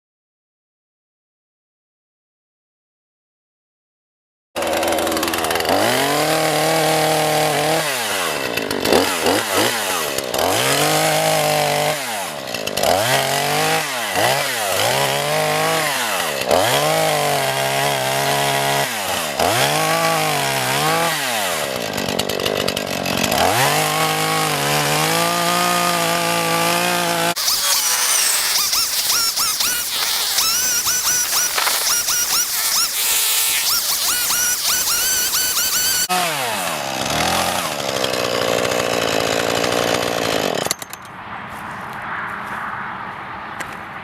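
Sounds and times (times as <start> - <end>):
chainsaw cutting wood: 4.6 - 42.0.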